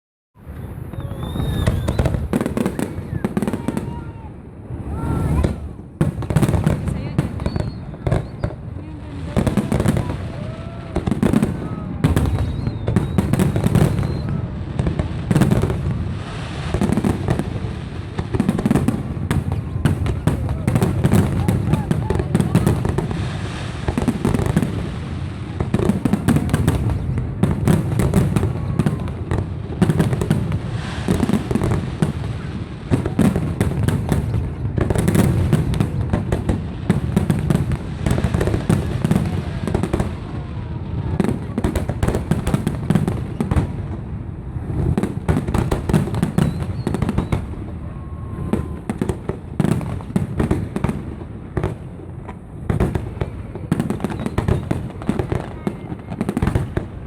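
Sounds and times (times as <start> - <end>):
fireworks booming and crackling: 0.4 - 57.0.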